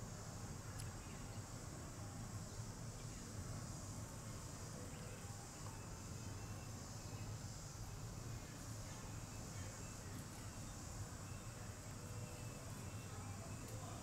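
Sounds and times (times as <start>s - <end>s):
high-pitched insect drone: 1.0s - 14.0s.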